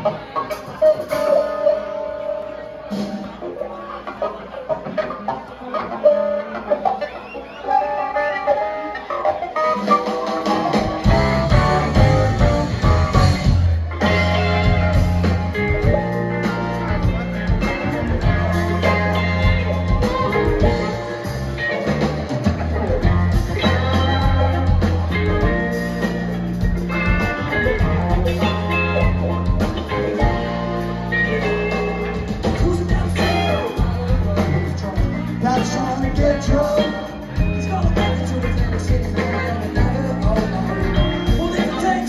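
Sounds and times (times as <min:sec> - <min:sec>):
live blues-rock band playing: 0:00.0 - 0:42.0.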